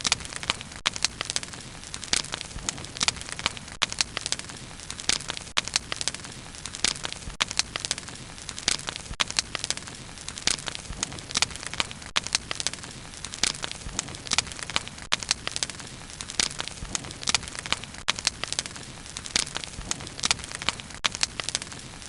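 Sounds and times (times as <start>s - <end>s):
bonfire crackling: 0.0s - 22.0s.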